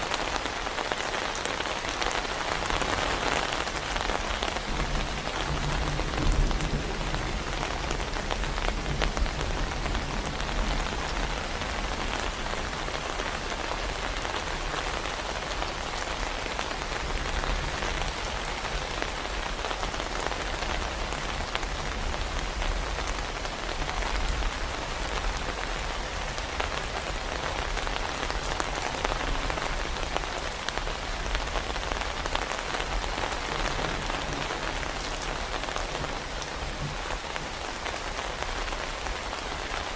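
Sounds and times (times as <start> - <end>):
heavy rain falling: 0.0 - 39.9
raindrops ticking on a surface: 0.0 - 39.9.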